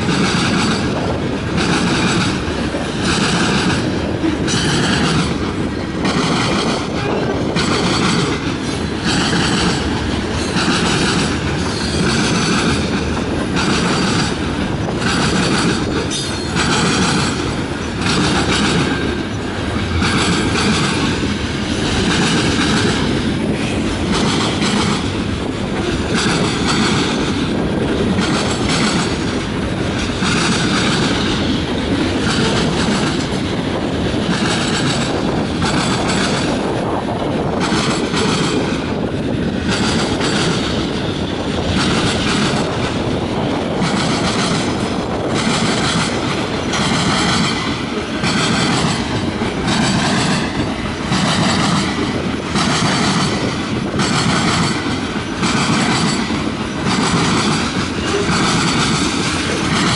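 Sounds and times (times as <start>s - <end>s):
clatter over rail joints: 0.0s - 59.9s
train wheels rumbling on rails: 0.0s - 59.9s.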